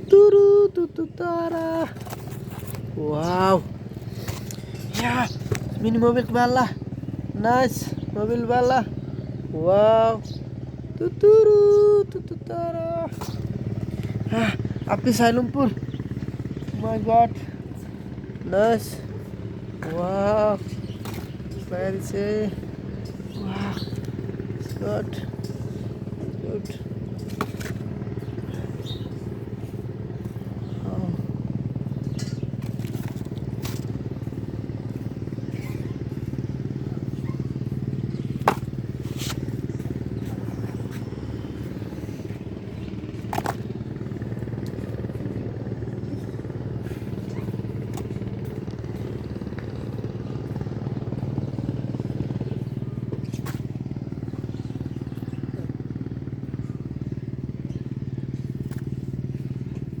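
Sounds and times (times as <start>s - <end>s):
motor running steadily: 0.0s - 60.0s.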